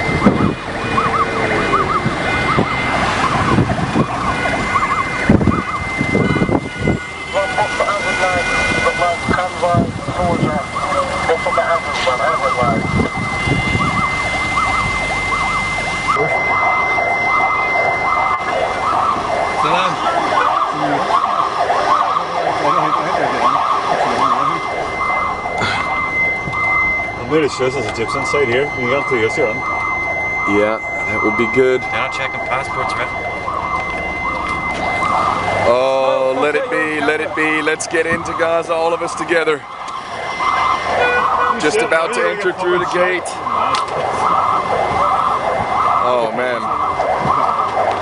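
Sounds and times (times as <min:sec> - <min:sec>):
moving vehicle rumble: 0:00.0 - 0:48.0
siren warbling: 0:00.0 - 0:48.0.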